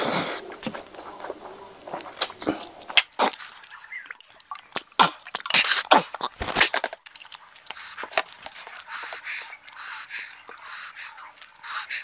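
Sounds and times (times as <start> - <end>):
wet smacking chewing: 0.5 - 12.0
squelching clicks and smacks: 2.2 - 12.0.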